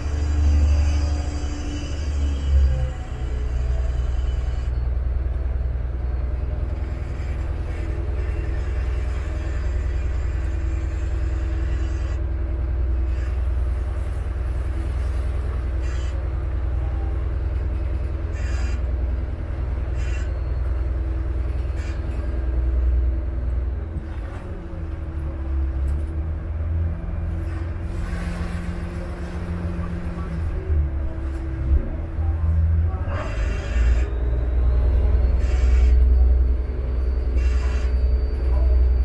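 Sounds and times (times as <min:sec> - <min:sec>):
boat diesel engine rumbling: 0:00.0 - 0:39.0.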